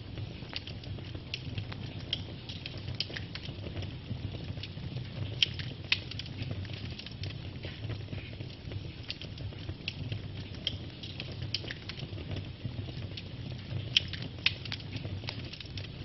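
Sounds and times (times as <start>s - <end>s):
fire pops and snaps: 0.0s - 16.0s
low rumble of flames: 0.0s - 16.0s.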